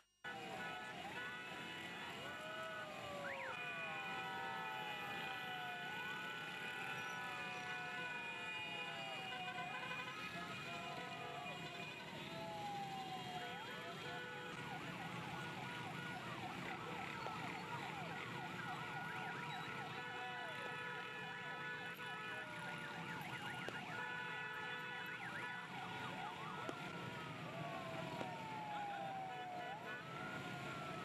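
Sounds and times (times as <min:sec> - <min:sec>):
crowd noise: 0:00.3 - 0:31.0
motorcycle traffic: 0:00.3 - 0:31.0
vehicle horns: 0:00.3 - 0:31.0
siren wailing and yelping: 0:02.0 - 0:31.0.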